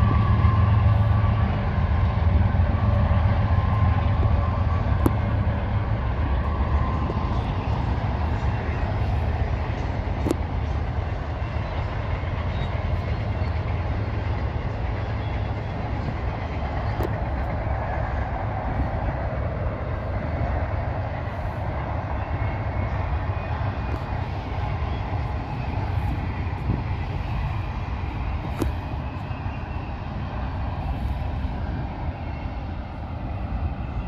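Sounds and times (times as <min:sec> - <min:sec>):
train rolling past: 0:00.0 - 0:34.0.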